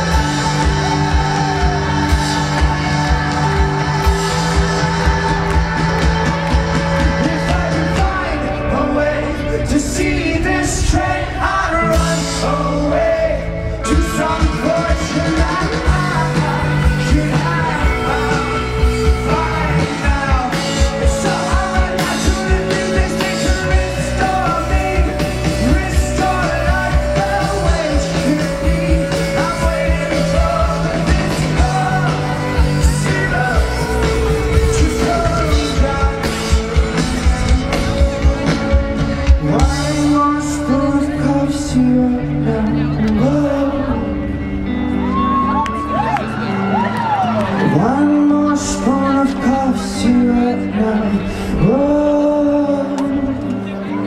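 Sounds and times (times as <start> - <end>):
person singing: 0.0 - 45.9, 47.6 - 54.0
live rock band playing: 0.0 - 54.0.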